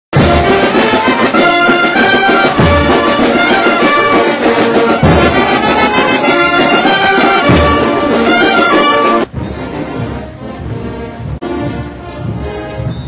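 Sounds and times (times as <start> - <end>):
brass band playing: 0.1 - 13.0.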